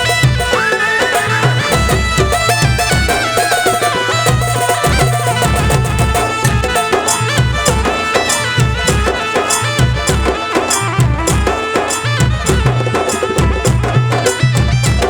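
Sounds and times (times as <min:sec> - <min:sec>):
melody instrument tune: 0:00.0 - 0:15.0
sharp percussion strokes: 0:00.0 - 0:15.0
steady drum beat: 0:00.0 - 0:15.0.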